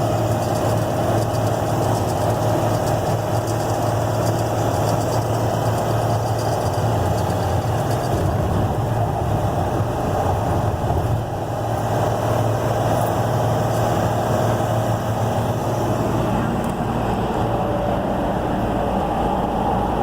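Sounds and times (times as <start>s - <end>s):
motorhome engine running: 0.0s - 20.0s.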